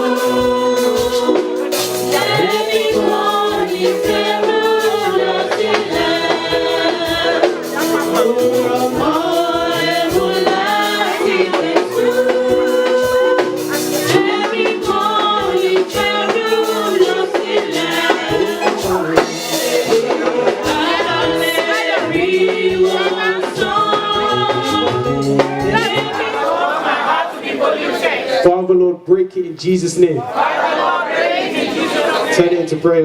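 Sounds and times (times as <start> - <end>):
congregation singing a hymn: 0.0 - 28.5, 30.2 - 33.0.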